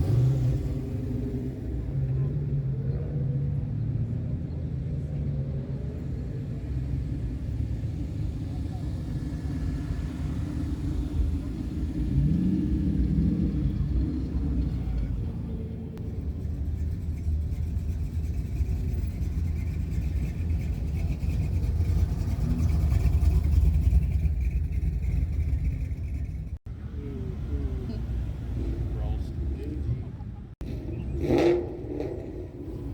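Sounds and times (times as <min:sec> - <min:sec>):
car engines rumbling: 0:00.0 - 0:32.9.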